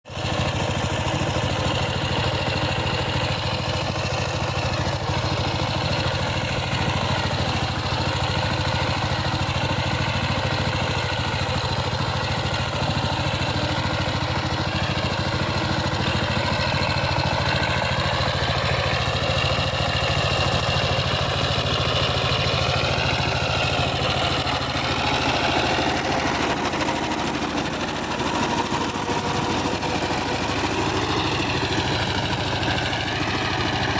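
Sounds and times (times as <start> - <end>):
tiller engine idling: 0.1 - 33.9.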